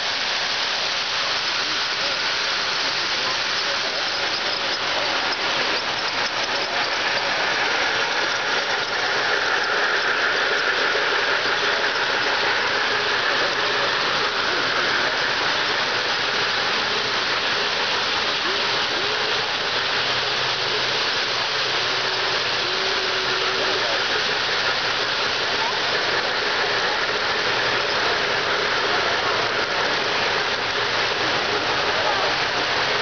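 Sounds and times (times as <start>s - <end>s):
model trains rumbling on track: 0.0s - 33.0s
murmur of voices: 0.0s - 33.0s.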